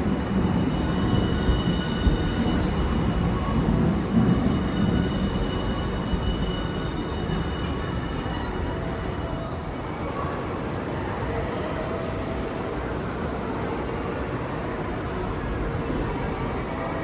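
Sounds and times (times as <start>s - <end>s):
streetcar rumble: 0.0s - 17.0s
thin high tones: 0.0s - 17.0s.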